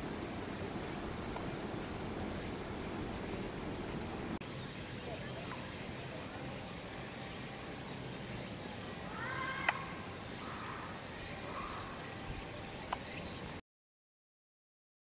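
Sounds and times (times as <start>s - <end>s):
insect chorus: 0.0s - 13.6s
outdoor background hiss: 0.0s - 13.6s.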